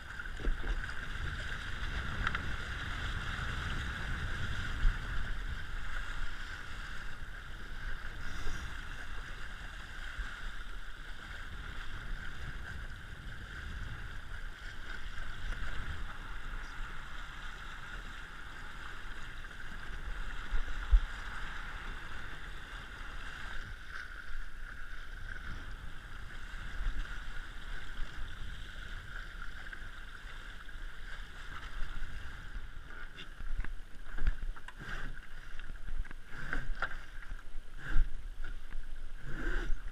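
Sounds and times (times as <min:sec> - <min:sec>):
water rushing along hull: 0:00.0 - 0:39.9
wind rumbling on microphone: 0:00.0 - 0:39.9.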